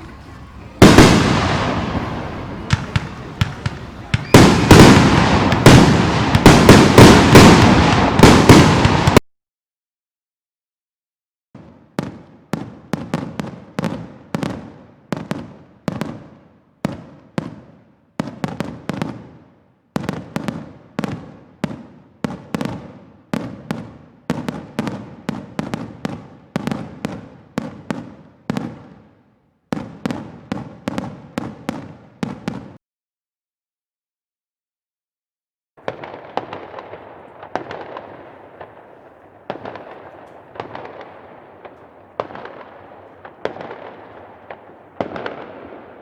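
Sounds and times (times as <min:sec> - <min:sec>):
fireworks bangs echoing: 0:00.0 - 0:09.2, 0:11.6 - 0:32.8, 0:35.8 - 0:46.0.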